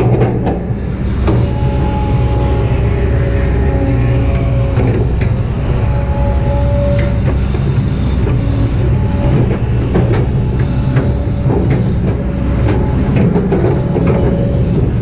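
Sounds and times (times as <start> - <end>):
metallic clanks and knocks: 0.0 - 3.2, 4.1 - 15.0
diesel engine drone: 0.0 - 15.0.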